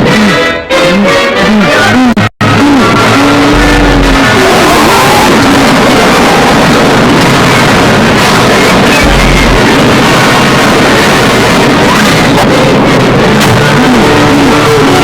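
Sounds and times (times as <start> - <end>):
distorted soundtrack music: 0.0 - 15.0.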